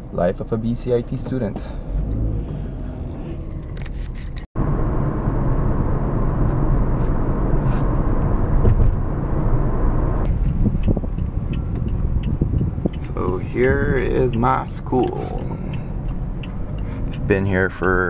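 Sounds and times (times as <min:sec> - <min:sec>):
road and tyre rumble in car: 0:00.0 - 0:18.0.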